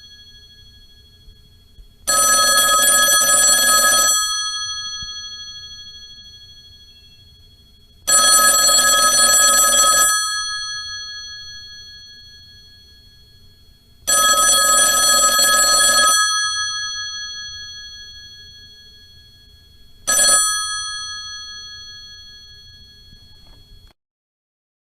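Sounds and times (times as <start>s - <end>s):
old telephone bell ringing: 0.0s - 1.4s, 2.0s - 13.4s, 14.0s - 23.9s.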